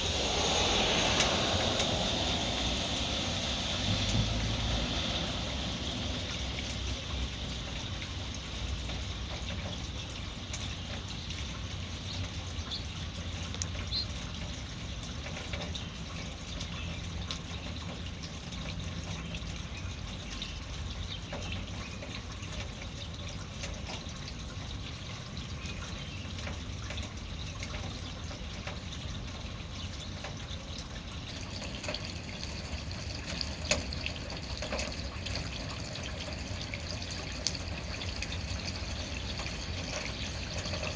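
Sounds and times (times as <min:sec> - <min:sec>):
small water drips: 0:00.0 - 0:40.9
water trickling into puddles: 0:00.0 - 0:40.9.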